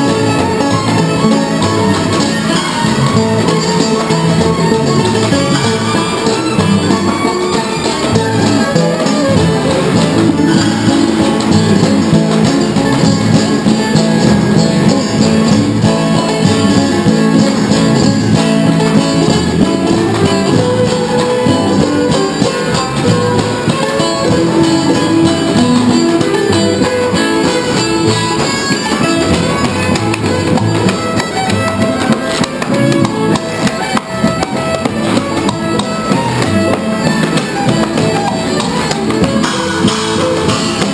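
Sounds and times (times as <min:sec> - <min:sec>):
banjo: 0:00.0 - 0:40.9
drum and cymbal percussion: 0:00.0 - 0:40.9
fiddle: 0:00.0 - 0:40.9
upright bass: 0:00.0 - 0:40.9.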